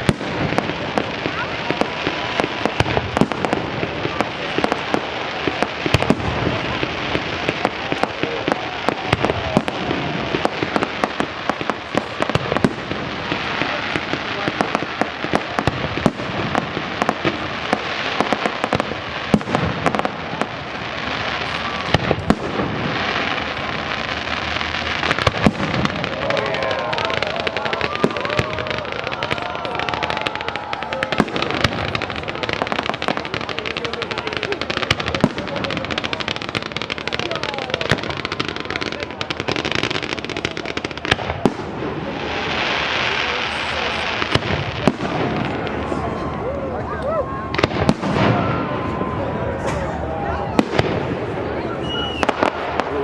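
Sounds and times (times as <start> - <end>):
fireworks popping and crackling: 0.0 - 53.0.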